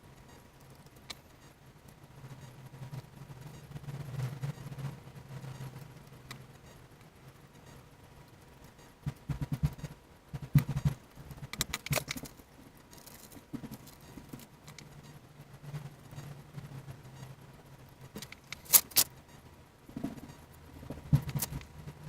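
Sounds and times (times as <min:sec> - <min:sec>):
faint low hum: 0:00.0 - 0:22.0
small hard parts clicking: 0:00.2 - 0:22.0.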